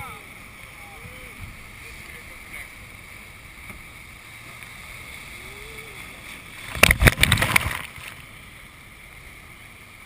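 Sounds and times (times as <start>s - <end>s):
rushing whitewater rapids: 0.0s - 10.0s
water splashing close to microphone: 0.0s - 10.0s.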